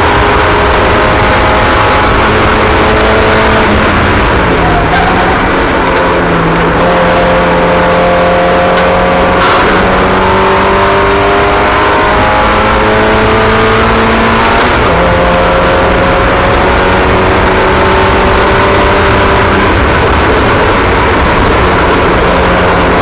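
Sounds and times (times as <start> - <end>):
race car engines: 0.0 - 23.0.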